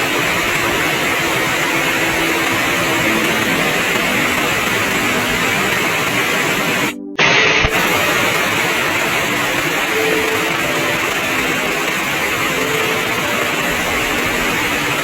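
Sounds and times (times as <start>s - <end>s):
heavy rain falling: 0.0s - 7.0s, 7.7s - 15.0s.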